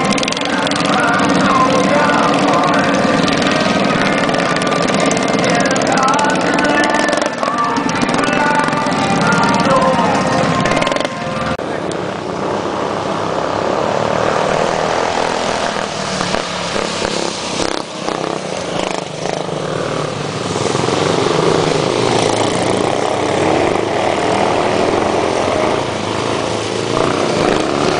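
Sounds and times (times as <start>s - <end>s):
go-kart engines at high revs: 0.0s - 27.9s.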